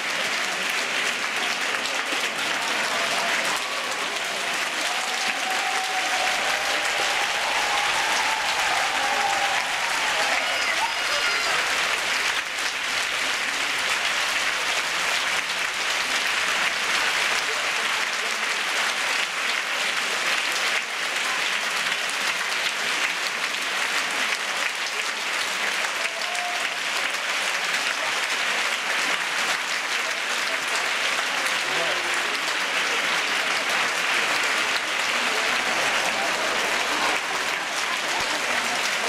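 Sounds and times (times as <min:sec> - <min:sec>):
audience applauding: 0:00.0 - 0:39.0.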